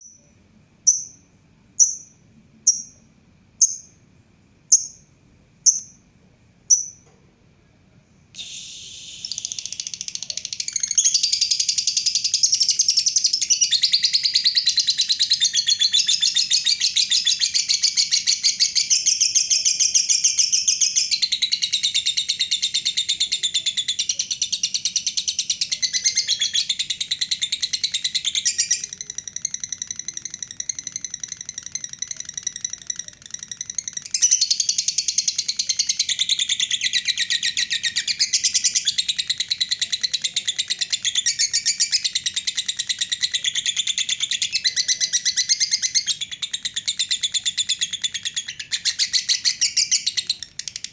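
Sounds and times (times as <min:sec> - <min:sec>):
lovebird chirping: 0:00.0 - 0:04.0, 0:04.7 - 0:06.1, 0:06.7 - 0:07.1, 0:08.4 - 0:50.9
fast high bird chattering: 0:08.4 - 0:50.9.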